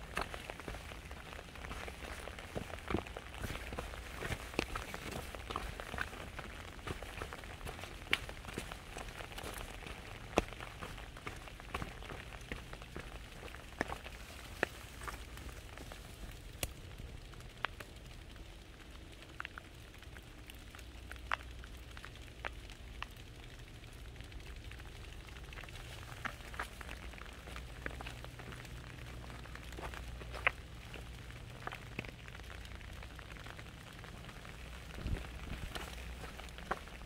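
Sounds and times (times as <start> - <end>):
low steady rumble: 0.0 - 37.0
raindrops ticking: 0.0 - 37.0.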